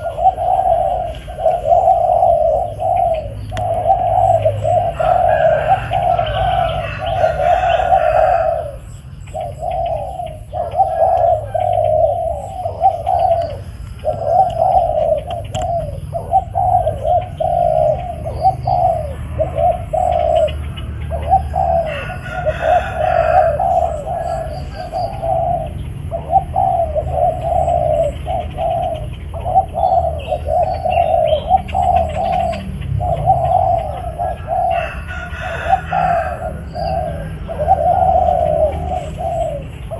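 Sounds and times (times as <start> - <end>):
bird chirps: 0.0 - 39.9
dove cooing: 0.0 - 39.9.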